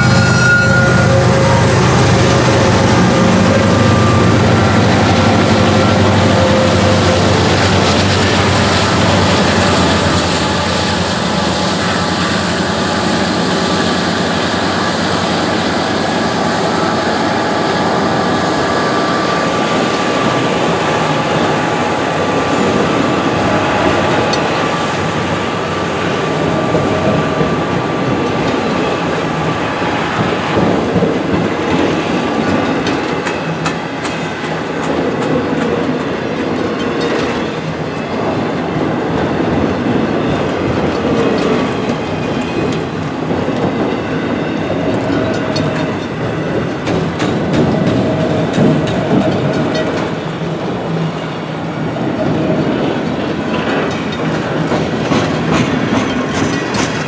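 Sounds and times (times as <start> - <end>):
diesel locomotives passing under power: 0.0 - 57.0
freight cars rolling on rails: 0.0 - 57.0.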